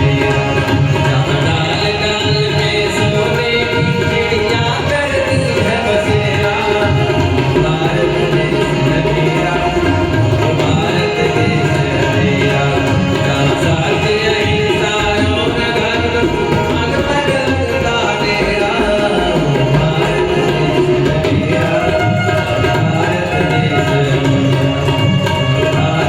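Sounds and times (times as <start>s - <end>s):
tabla rhythm: 0.0s - 26.0s.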